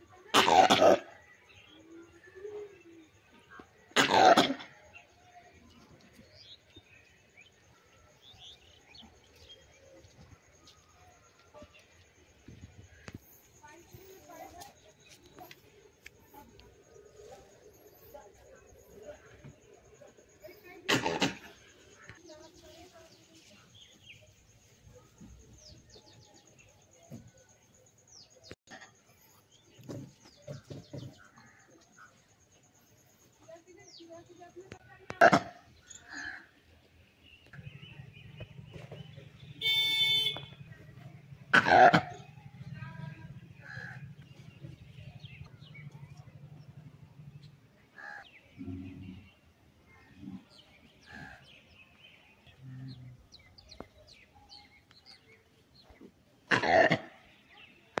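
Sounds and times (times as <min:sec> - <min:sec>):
small birds chirping: 0:04.6 - 0:41.5, 0:42.1 - 0:58.0.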